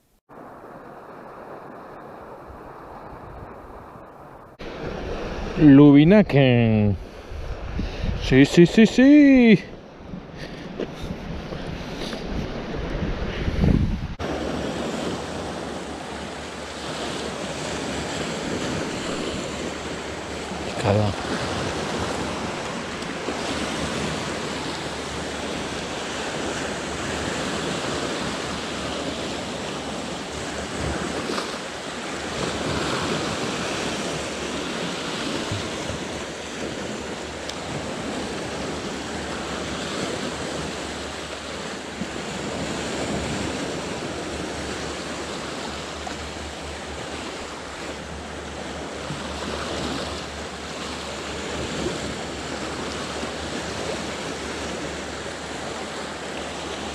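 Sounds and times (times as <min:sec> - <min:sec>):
waves washing against rocks: 0:10.9 - 0:56.9.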